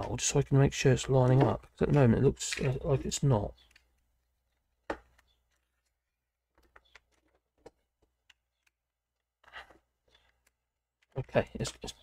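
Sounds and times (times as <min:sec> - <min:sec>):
small plastic parts clicking: 0:01.2 - 0:12.0.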